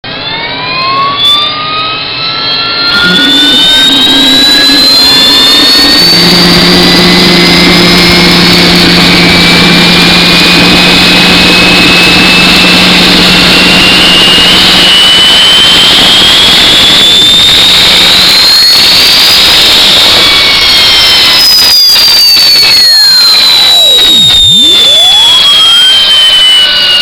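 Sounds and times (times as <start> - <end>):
gas turbine spooling up: 0.1 - 27.0.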